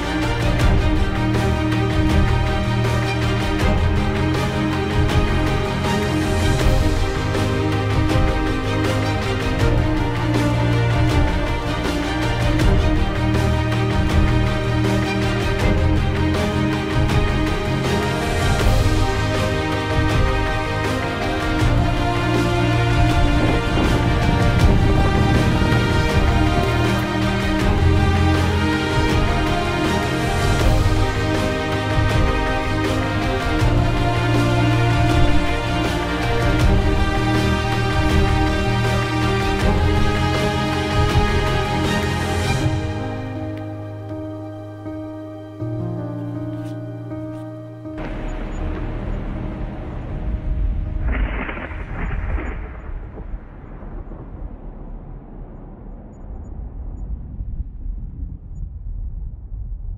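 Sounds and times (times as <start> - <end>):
background music with bass: 0.0 - 55.2
deep steady rumble: 0.4 - 43.2, 44.2 - 59.9.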